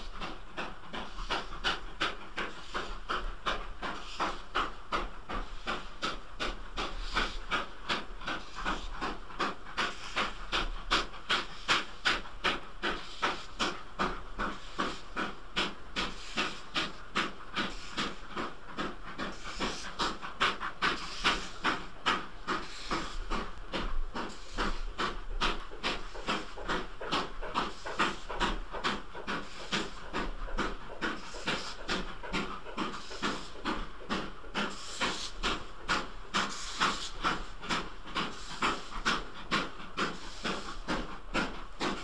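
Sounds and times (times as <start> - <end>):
hiss of steam: 0.0 - 42.0
steam locomotive chuffing: 0.0 - 42.0.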